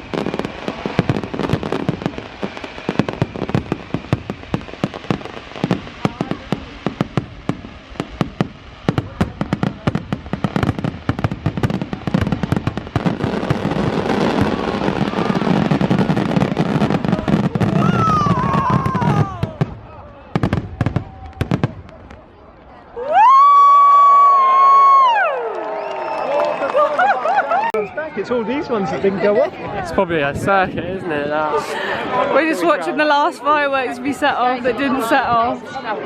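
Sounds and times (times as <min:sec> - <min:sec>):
fireworks bangs and crackles: 0:00.0 - 0:23.4, 0:28.5 - 0:36.0.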